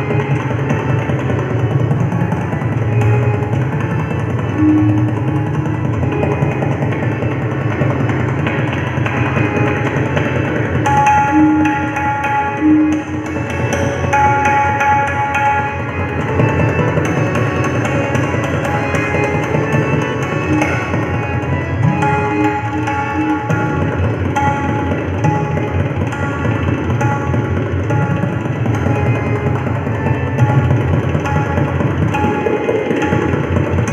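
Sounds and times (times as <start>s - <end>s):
harmonium repeating melody: 0.0s - 33.5s
tabla rapid strokes: 0.0s - 33.9s.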